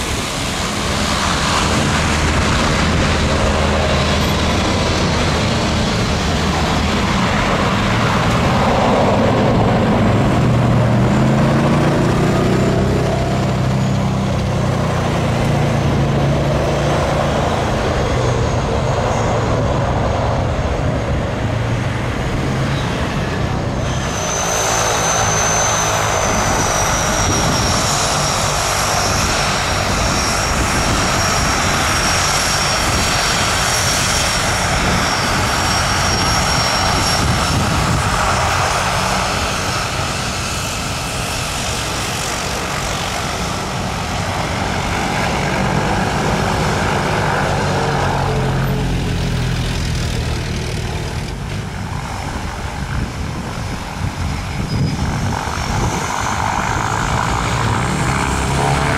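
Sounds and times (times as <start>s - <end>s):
high turbine whine: 0.0s - 58.9s
propeller drone: 0.0s - 58.9s.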